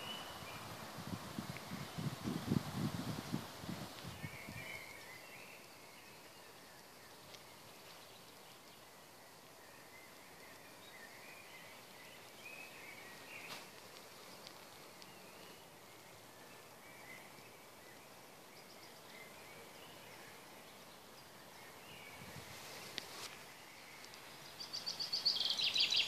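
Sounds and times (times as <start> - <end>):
distant birdsong: 0.0 - 2.6, 4.0 - 26.0
open-air background hiss: 0.0 - 26.0.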